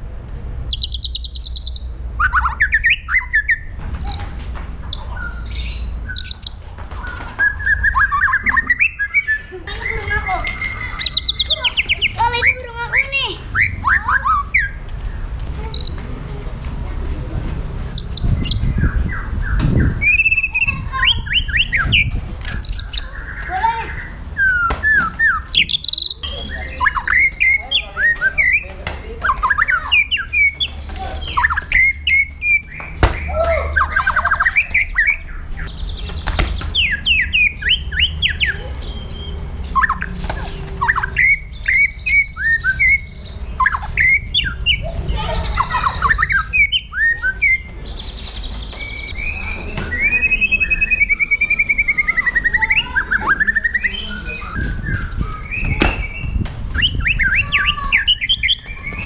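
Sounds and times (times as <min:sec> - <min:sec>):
songbird singing: 0:00.6 - 0:59.0.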